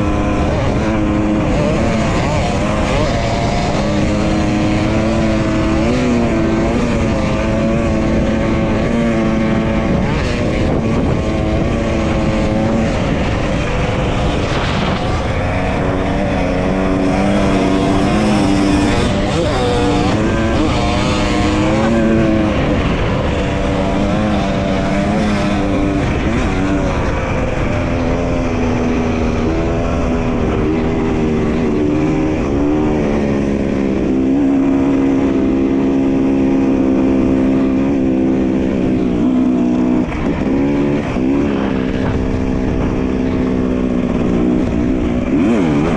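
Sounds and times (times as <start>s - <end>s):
dirt bike engine revving: 0.0s - 45.9s
wind rumble on microphone: 0.0s - 45.9s.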